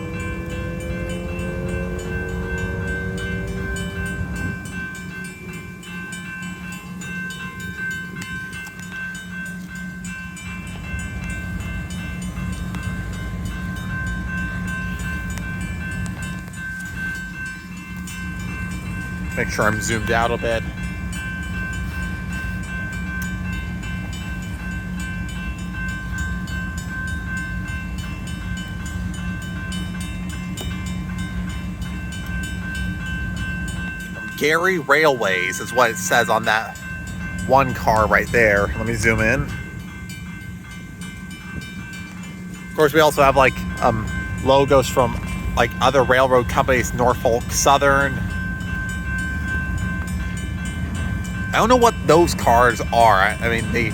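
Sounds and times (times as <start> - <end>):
electronic bell tone: 0.0 - 24.8, 25.4 - 53.9
freight train rolling over rails: 0.0 - 53.9.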